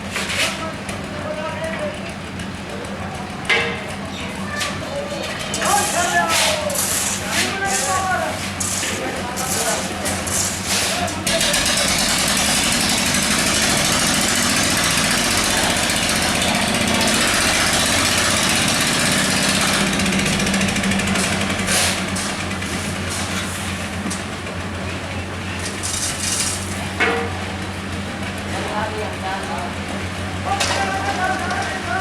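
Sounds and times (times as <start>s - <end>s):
construction machine engine running: 0.0s - 32.0s.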